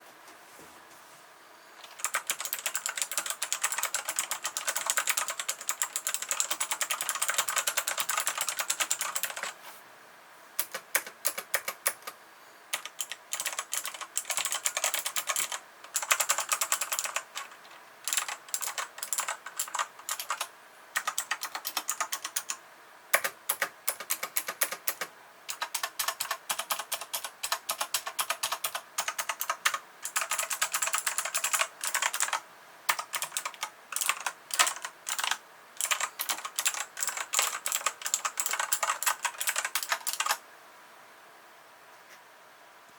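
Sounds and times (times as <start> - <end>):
rapid keyboard typing: 1.8 - 9.6, 10.6 - 40.4.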